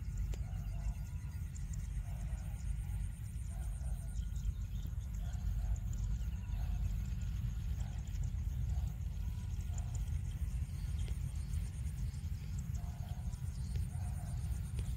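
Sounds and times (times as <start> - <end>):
faint insect ticking: 0.0 - 14.9
wind rumble on microphone: 0.0 - 14.9.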